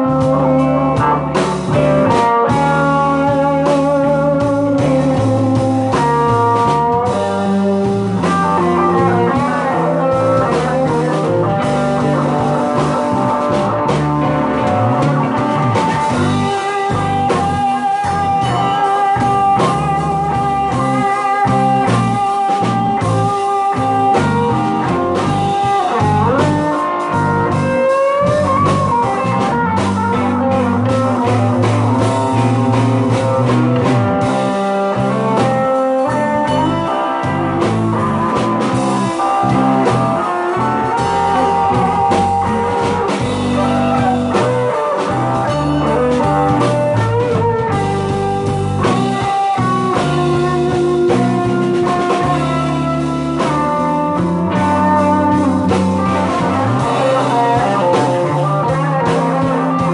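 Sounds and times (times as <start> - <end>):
bass and drums: 0.0 - 59.9
lead guitar bending notes: 0.0 - 59.9.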